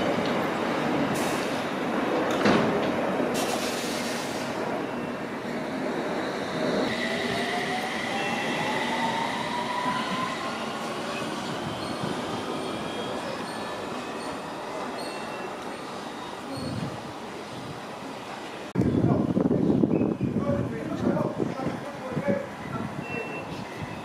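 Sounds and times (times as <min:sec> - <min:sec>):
train running on track: 0:00.0 - 0:24.0.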